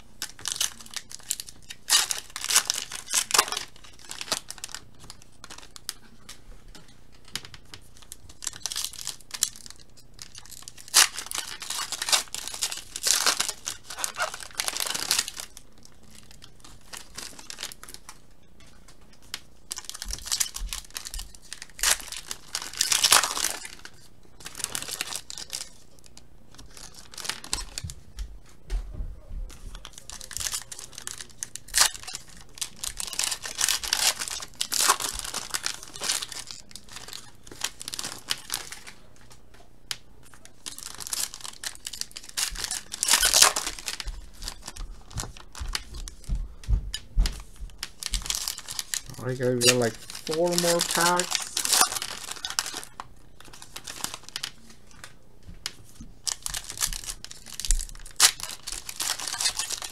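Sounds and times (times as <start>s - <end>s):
plastic wrappers tearing and crinkling: 0.0s - 18.2s, 19.1s - 28.0s, 29.7s - 46.4s, 47.3s - 59.9s.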